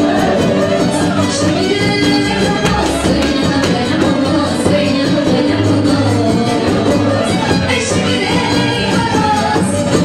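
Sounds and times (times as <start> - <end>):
live band playing folk dance music: 0.0 - 10.0.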